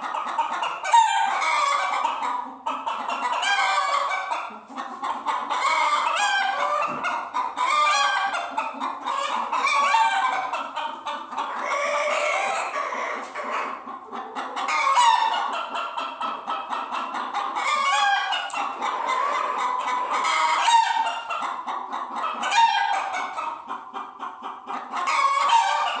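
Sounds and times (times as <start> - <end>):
hens clucking and cackling: 0.0 - 26.0.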